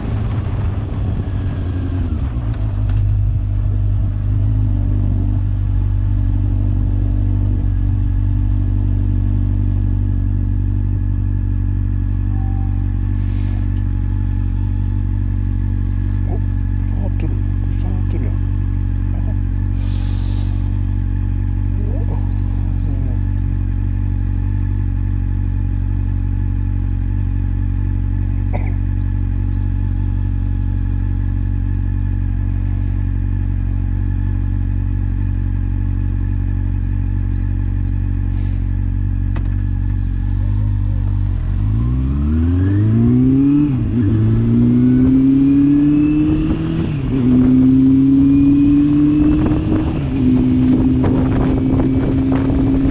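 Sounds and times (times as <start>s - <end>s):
motorcycle engine idling: 0.0s - 42.9s
motorcycle accelerating through gears: 0.0s - 52.9s.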